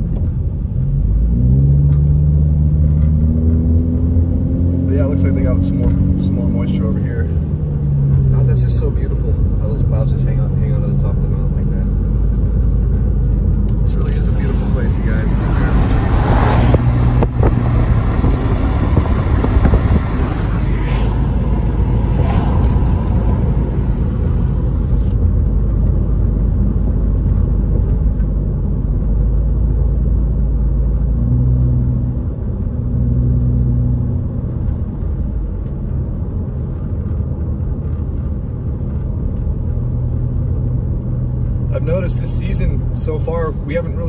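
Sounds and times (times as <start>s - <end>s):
car road rumble: 0.0s - 44.0s.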